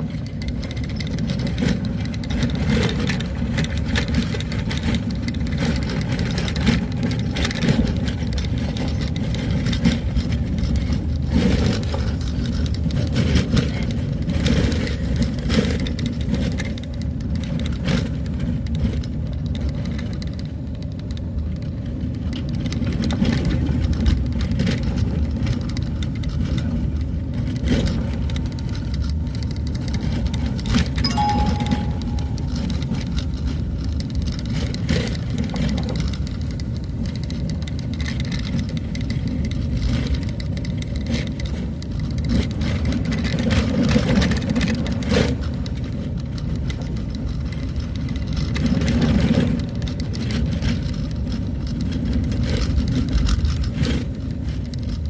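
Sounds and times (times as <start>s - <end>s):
vehicle engine and road rumble: 0.0s - 31.1s, 31.8s - 55.0s.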